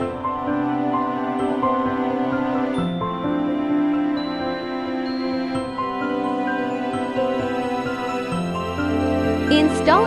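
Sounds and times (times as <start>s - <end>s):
calm new-age music: 0.0s - 10.0s.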